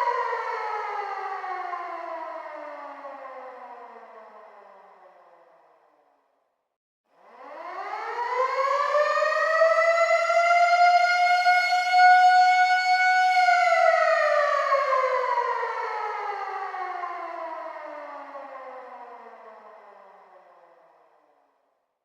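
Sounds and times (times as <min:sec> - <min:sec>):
air raid siren wailing: 0:00.0 - 0:05.0, 0:07.2 - 0:20.8.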